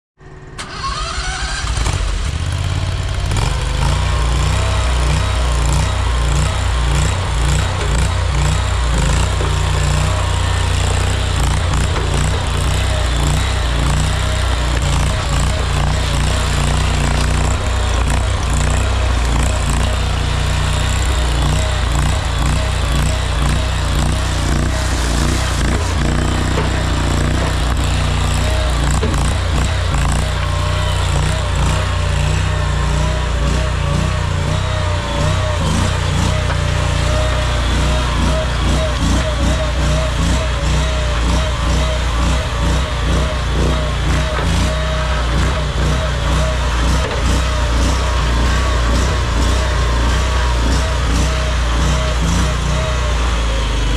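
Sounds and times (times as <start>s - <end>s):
small gasoline engine running: 0.2s - 53.9s.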